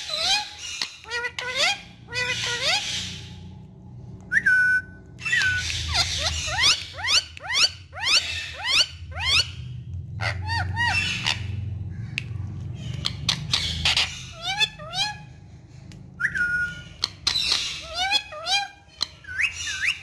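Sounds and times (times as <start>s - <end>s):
parakeet whistling and calling: 0.0s - 3.5s, 4.2s - 15.4s, 16.2s - 20.0s.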